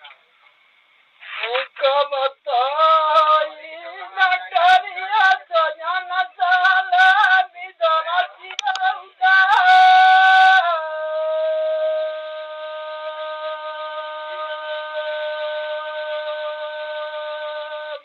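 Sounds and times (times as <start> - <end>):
person singing folk song: 1.2 - 18.0.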